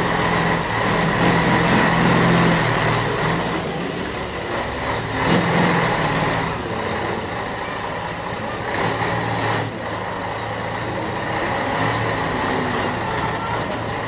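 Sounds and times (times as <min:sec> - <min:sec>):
truck diesel engine running low: 0:00.0 - 0:14.0.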